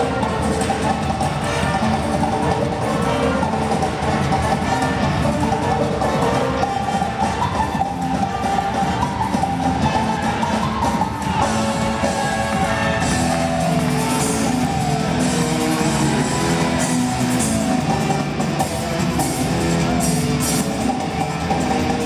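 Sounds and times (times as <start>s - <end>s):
circus music: 0.0s - 22.0s.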